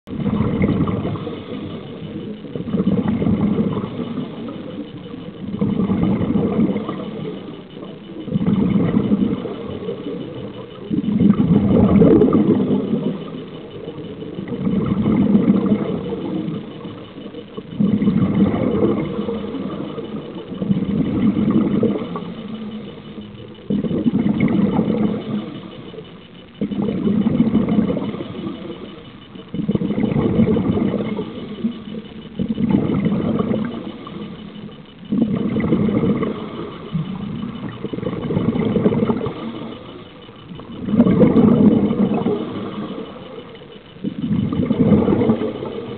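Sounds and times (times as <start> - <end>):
underwater regulator bubbles: 0.0 - 45.9.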